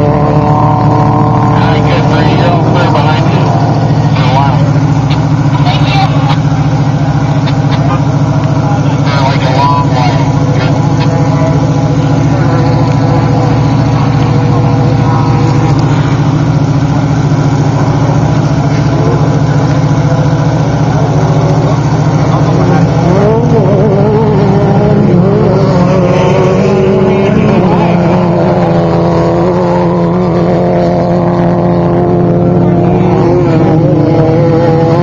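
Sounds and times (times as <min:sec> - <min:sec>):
race vehicle engine running: 0:00.0 - 0:35.0.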